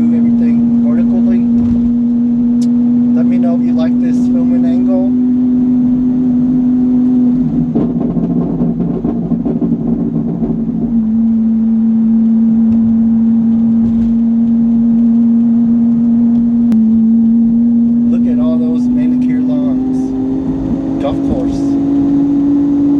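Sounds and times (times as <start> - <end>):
car engine humming: 0.0 - 22.9.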